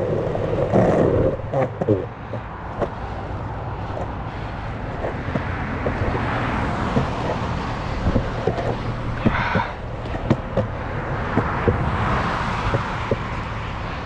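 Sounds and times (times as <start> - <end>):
car passing: 0.0 - 14.0
longboard wheels rolling on concrete: 0.0 - 14.0
wheels clicking over joints: 0.0 - 14.0.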